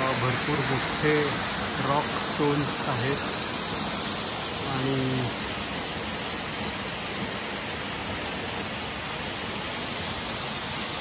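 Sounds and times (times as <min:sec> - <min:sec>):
small waterfall splashing over rocks: 0:00.0 - 0:11.0.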